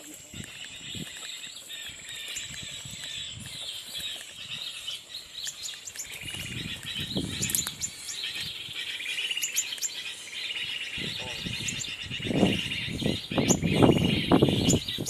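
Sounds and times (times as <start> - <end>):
people walking through grass: 0.0 - 15.0
small birds chirping: 0.0 - 15.0.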